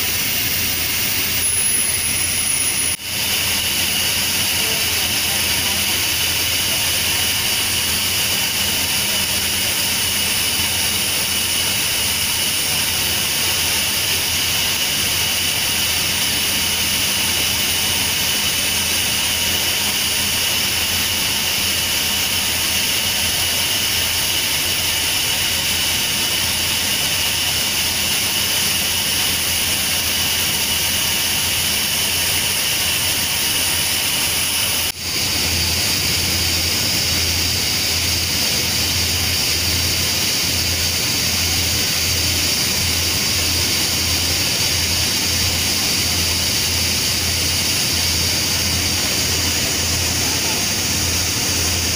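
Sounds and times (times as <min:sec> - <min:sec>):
steam hissing from valve: 0:00.0 - 0:51.9.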